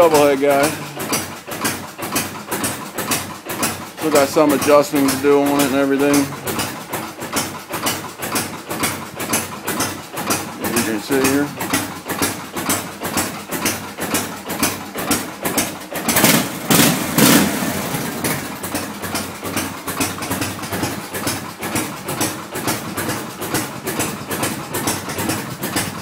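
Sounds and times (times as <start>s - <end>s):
engine knocking: 0.0s - 26.0s
motorcycle engine idling: 0.0s - 26.0s.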